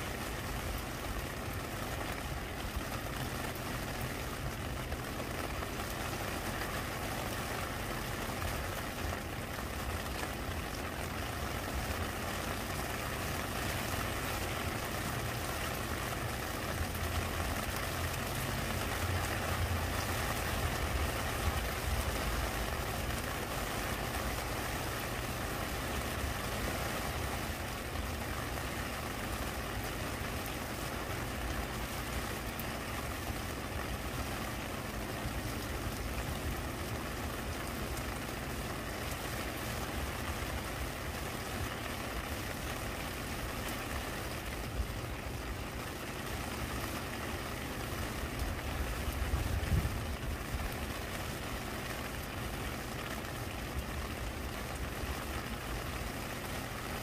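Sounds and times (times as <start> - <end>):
rain on stone and leaves: 0.0 - 57.0.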